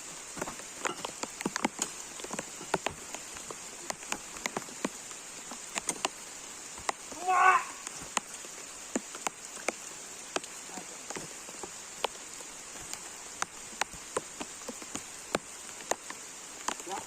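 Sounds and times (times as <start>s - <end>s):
rain hiss: 0.0s - 17.0s
raindrops tapping: 0.0s - 17.0s.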